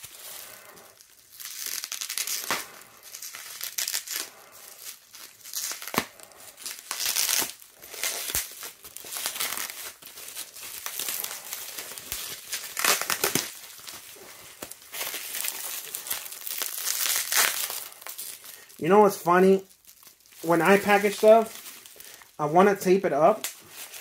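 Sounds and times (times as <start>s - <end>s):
bubble wrap snaps: 0.0s - 18.8s, 23.3s - 24.0s
bubble wrap crinkling: 0.0s - 24.0s.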